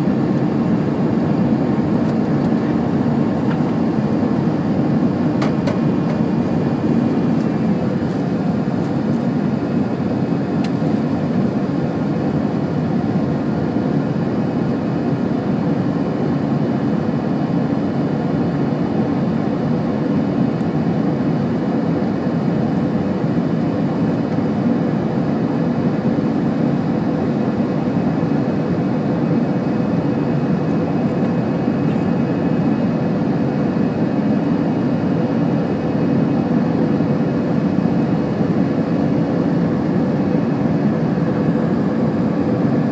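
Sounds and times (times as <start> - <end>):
airliner cabin engine rumble: 0.0 - 42.9.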